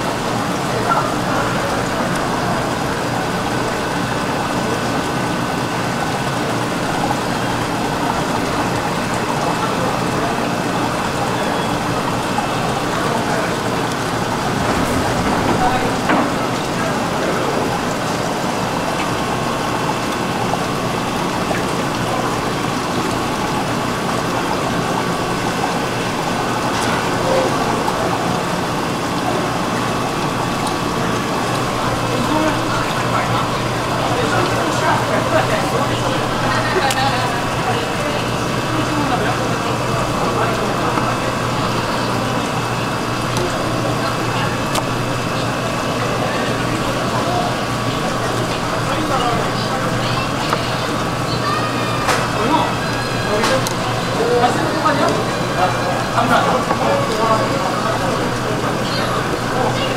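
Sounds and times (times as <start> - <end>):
busy fish market noise: 0.0 - 59.9
water-like noise: 0.0 - 59.9.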